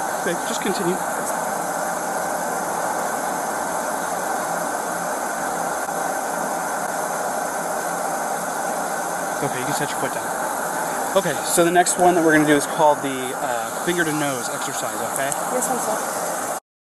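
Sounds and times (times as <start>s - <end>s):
car engines idling: 0.0s - 16.6s.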